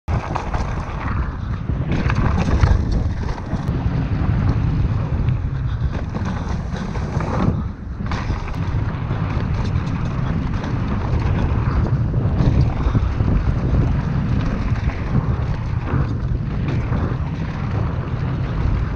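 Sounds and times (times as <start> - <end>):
bike rattling and knocking: 0.1 - 18.9
tyres rumbling on gravel: 0.1 - 18.9
wind buffeting microphone: 0.1 - 18.9.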